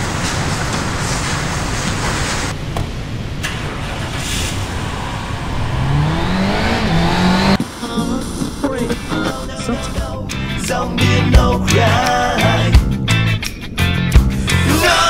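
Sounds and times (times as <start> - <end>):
heavy rumbling noise: 0.0 - 15.0
car engine revving: 2.5 - 15.0.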